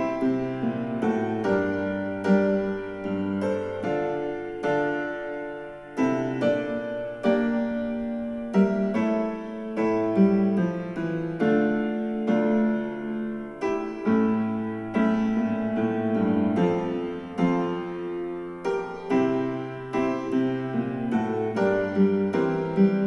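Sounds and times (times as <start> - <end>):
slow piano music through speakers: 0.0 - 23.0.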